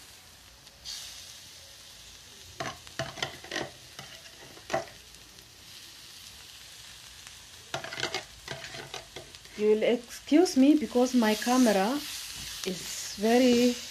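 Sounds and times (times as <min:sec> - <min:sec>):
vegetables sizzling in frying pan: 0:00.0 - 0:13.9.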